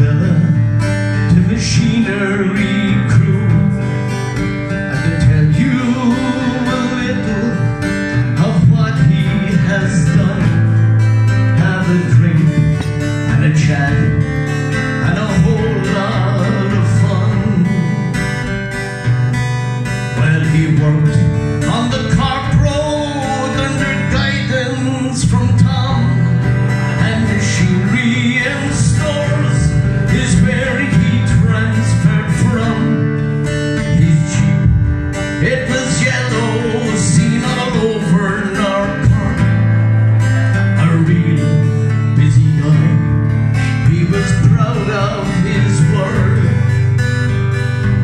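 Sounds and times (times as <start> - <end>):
man singing into a microphone: 0.0 - 18.5, 19.8 - 46.9
acoustic guitar strumming: 0.0 - 48.0.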